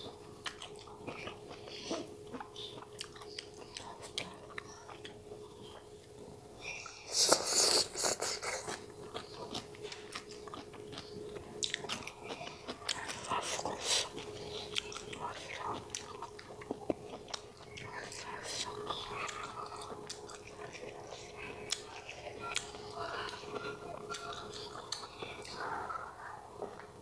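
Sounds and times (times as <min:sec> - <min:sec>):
chewing with wet mouth clicks: 0:00.0 - 0:06.2, 0:08.7 - 0:25.7
faint steady hum: 0:00.0 - 0:27.0.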